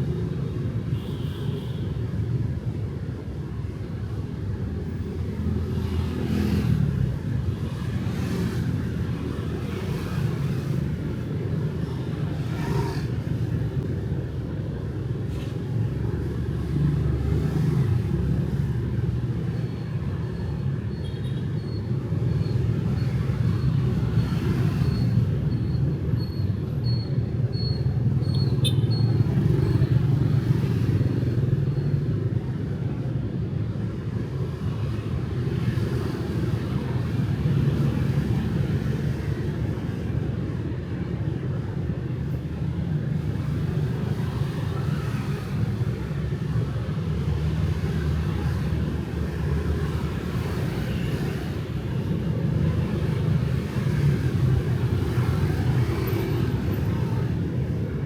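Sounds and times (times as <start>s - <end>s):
motorbikes and cars passing: 2.0s - 58.0s.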